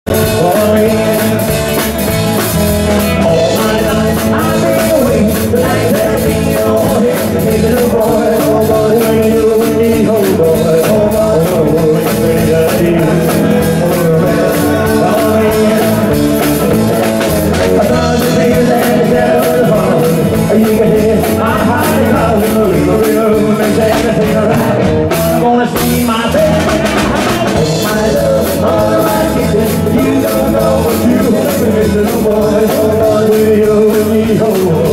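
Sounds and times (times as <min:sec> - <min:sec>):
rock band playing: 0:00.0 - 0:34.9
person singing: 0:00.1 - 0:34.9.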